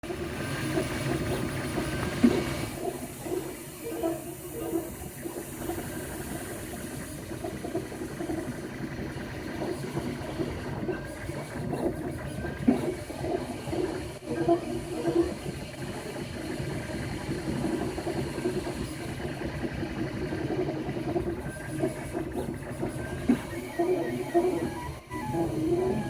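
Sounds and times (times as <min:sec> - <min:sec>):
printer motors whirring: 0:00.1 - 0:26.0.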